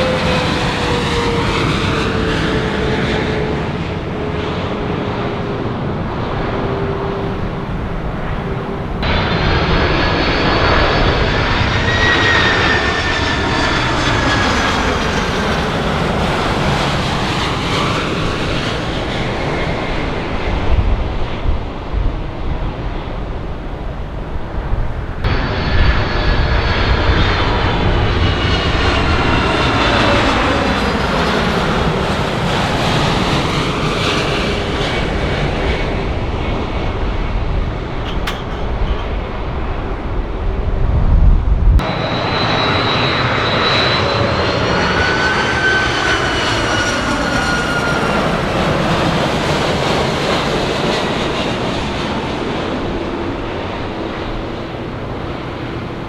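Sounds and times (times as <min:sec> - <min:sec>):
jet engines passing: 0:00.0 - 0:56.0.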